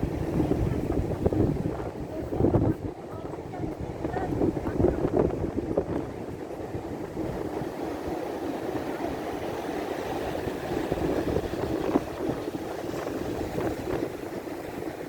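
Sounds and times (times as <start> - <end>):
sea waves washing ashore: 0.0 - 15.0
wind rumbling on microphone: 0.0 - 15.0.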